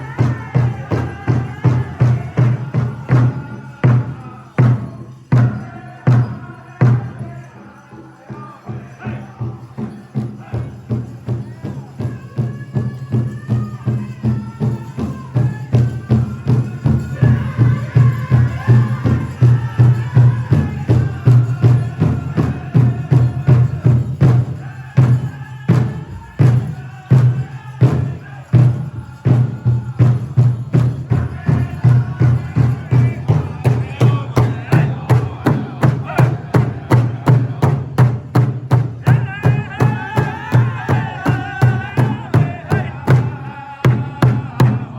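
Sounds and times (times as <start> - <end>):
big drum beating: 0.0 - 7.3, 8.7 - 44.9
singers' high voices: 0.0 - 44.9.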